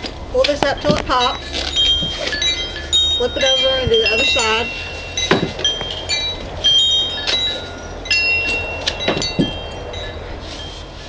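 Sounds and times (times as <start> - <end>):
wind chimes ringing: 0.4 - 11.0.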